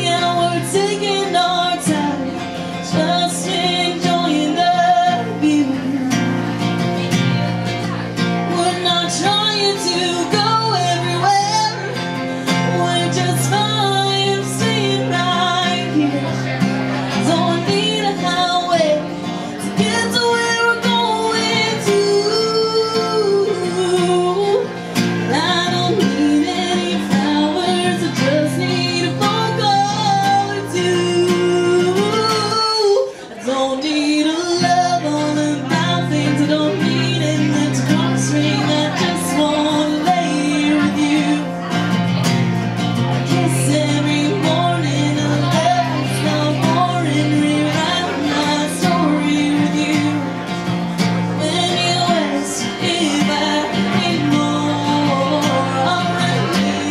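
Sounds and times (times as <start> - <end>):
woman singing: 0.0 - 6.7, 8.2 - 42.2, 43.0 - 56.9
guitar accompaniment: 0.0 - 56.9.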